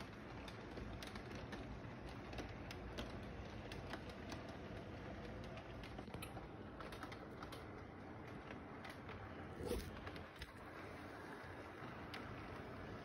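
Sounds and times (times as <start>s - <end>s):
wheels clicking over track joints: 0.0s - 13.0s.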